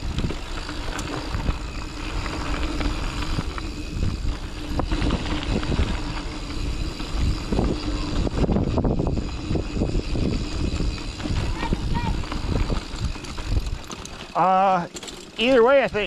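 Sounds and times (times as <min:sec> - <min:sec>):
bike knocking and rattling: 0:00.0 - 0:16.0
bike tyres rumbling on dirt: 0:00.0 - 0:16.0.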